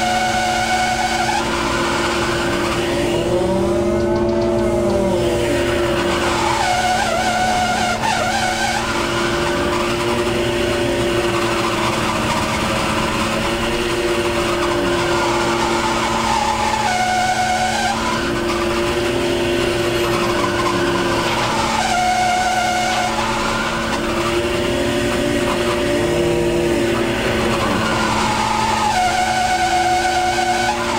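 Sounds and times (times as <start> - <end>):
boat engine humming: 0.0 - 30.9
hydraulic hauler whine: 0.0 - 30.9.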